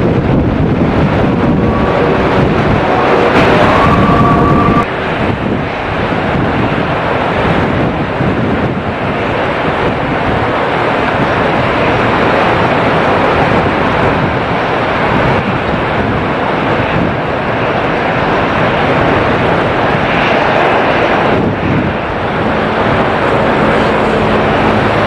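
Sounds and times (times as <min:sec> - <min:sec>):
wind and heavy rain on microphone: 0:00.0 - 0:25.0.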